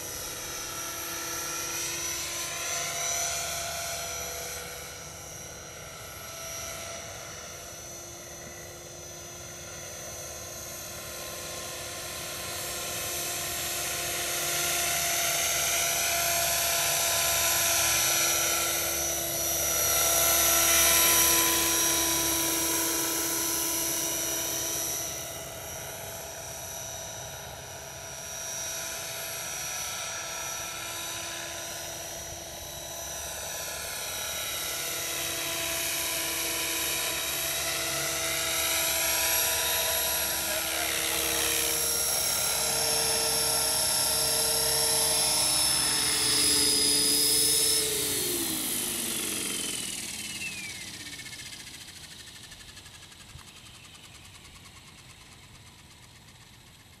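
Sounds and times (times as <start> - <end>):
model helicopter whine: 0.0 - 57.0.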